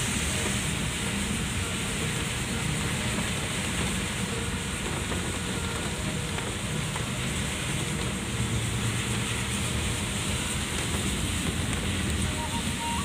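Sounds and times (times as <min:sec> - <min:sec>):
car engine and tyres on wet road: 0:00.0 - 0:13.0.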